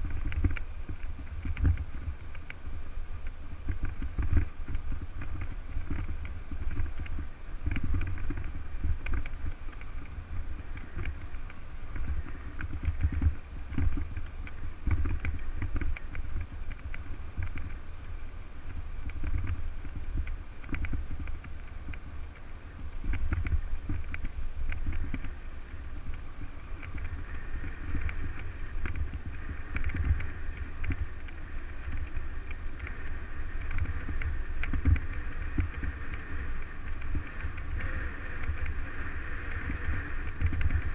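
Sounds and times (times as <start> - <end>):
steady hum: 0.0 - 40.9
wind buffeting microphone: 0.0 - 40.9.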